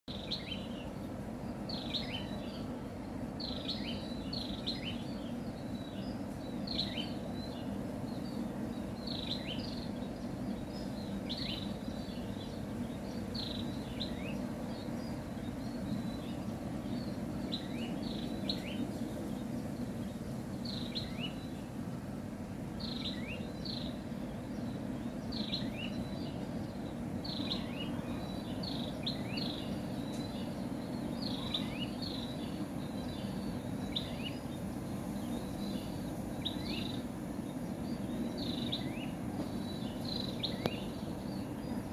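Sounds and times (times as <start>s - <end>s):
songbird chirping: 0.0s - 41.9s
low background hum: 0.1s - 41.9s.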